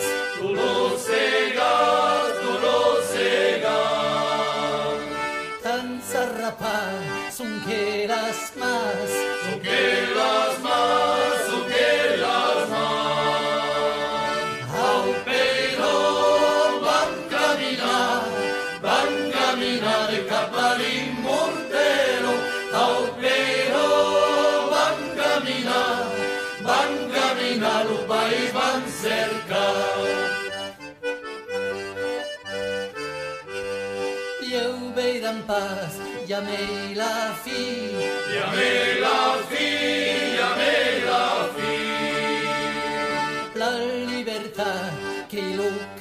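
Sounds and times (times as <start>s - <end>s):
accordion folk music: 0.0s - 46.0s.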